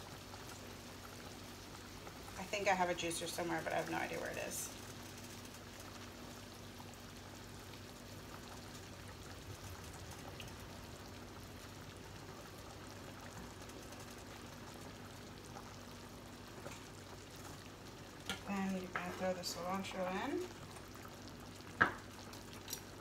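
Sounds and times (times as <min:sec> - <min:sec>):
food sizzling and bubbling: 0:00.0 - 0:23.0
low steady hum: 0:00.0 - 0:23.0.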